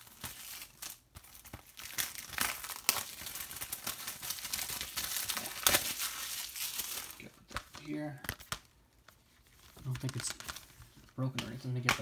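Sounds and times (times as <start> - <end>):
plastic wrap tearing and crinkling: 0.0 - 12.0.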